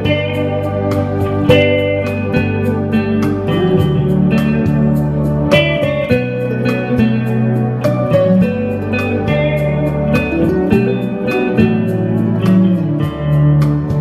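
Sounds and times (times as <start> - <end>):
clean electric guitar chords: 0.0 - 14.0.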